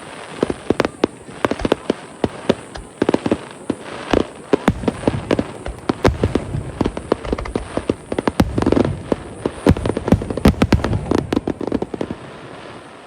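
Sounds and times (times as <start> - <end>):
deep firework booms: 0.0 - 12.3
fireworks bangs and crackles: 0.0 - 13.0.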